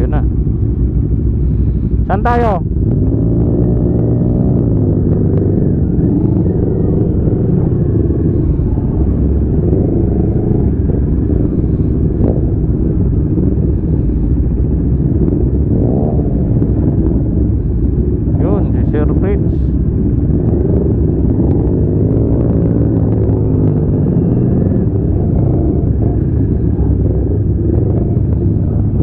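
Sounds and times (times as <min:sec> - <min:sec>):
motorcycle engine revving: 0:00.0 - 0:29.0
steady low rumble: 0:00.0 - 0:29.0.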